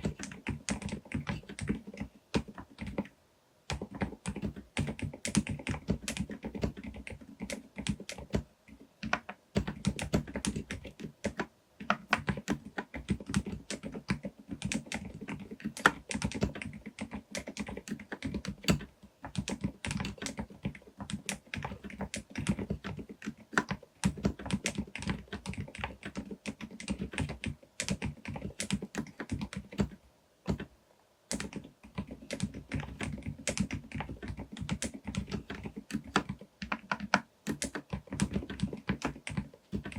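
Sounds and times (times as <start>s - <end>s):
mechanical keyboard typing: 0.0s - 3.1s, 3.7s - 30.7s, 31.3s - 39.9s.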